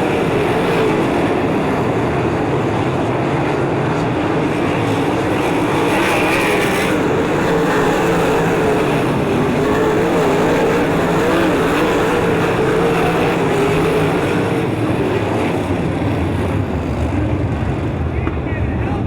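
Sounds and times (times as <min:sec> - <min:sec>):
racing car engines droning: 0:00.0 - 0:19.0.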